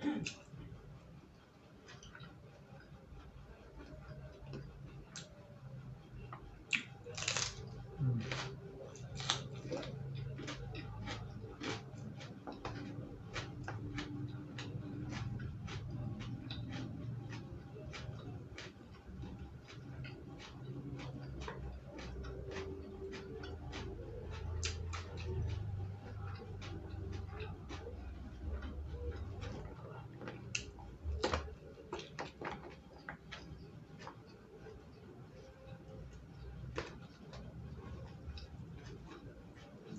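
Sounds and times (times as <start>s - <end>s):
chewing crunchy vegetables: 0.0s - 39.9s
low steady hum: 0.0s - 39.9s.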